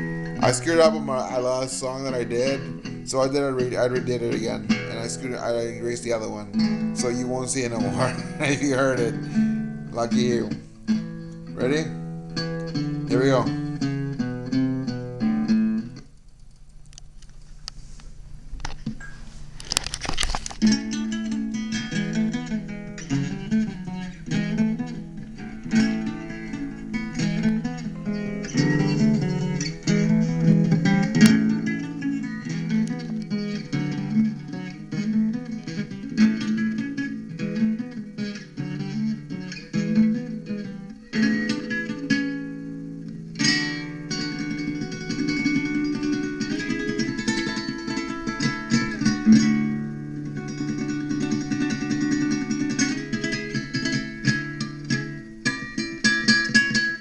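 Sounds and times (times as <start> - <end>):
acoustic guitar music: 0.0 - 18.0, 18.6 - 57.0.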